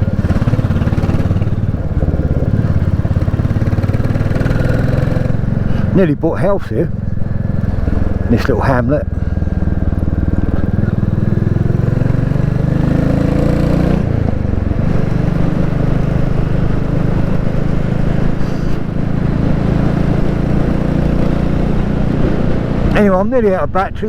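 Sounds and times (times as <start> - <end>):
single-cylinder motorcycle engine: 0.0 - 23.3.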